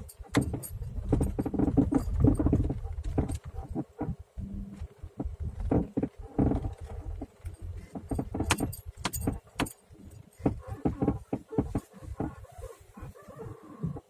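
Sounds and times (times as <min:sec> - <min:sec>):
car suspension knocking and squeaking: 0:00.0 - 0:14.0.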